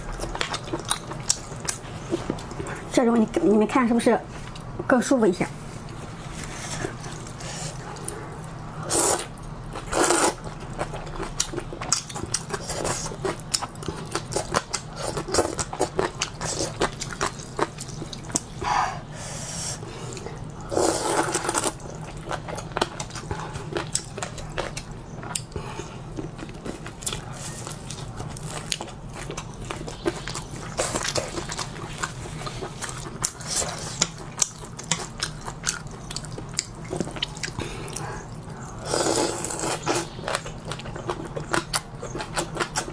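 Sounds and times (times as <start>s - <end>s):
person chewing noodles: 0.0s - 2.9s, 5.8s - 42.9s.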